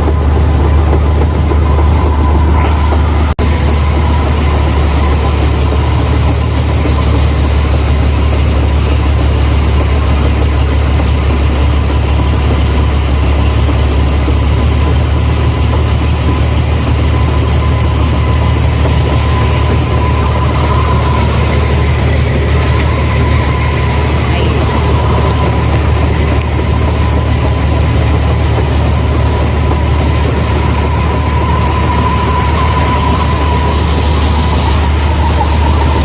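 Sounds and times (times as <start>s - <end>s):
combine harvester engine droning: 0.0s - 36.0s
constant machine whine: 0.0s - 36.0s.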